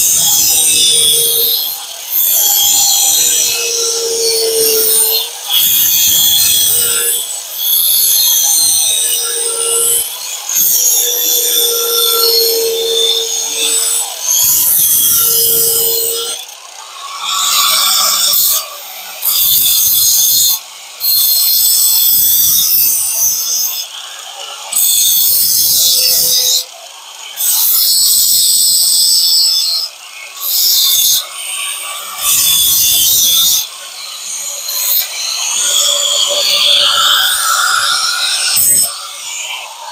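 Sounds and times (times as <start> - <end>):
power tool grinding: 0.0 - 39.9
steady motor whine: 0.0 - 39.9.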